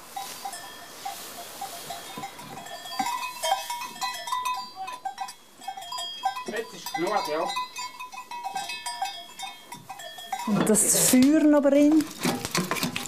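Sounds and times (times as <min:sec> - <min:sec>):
hay rustling: 0:00.0 - 0:11.2
livestock bells clanking: 0:00.0 - 0:12.0.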